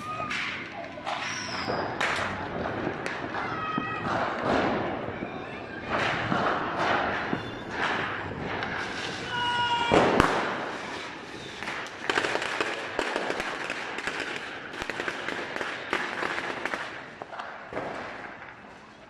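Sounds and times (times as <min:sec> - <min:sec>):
firecrackers crackling: 0:00.0 - 0:19.0
fireworks bangs: 0:00.0 - 0:19.0.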